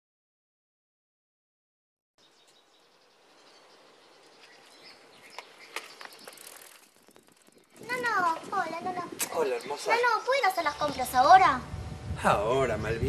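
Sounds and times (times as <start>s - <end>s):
faint outdoor hiss: 2.2s - 13.0s.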